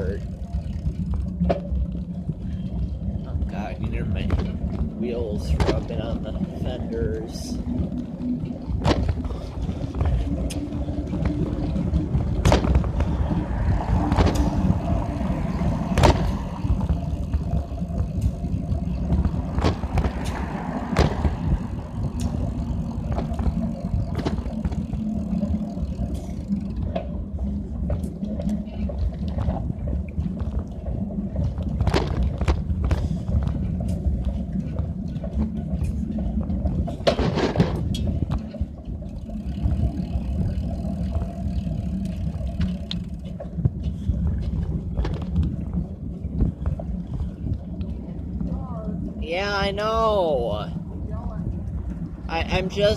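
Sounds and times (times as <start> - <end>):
bicycle clicks and rattles: 0.0 - 52.9
wheels rubbing on fenders: 0.0 - 52.9
wind and road noise: 0.0 - 52.9.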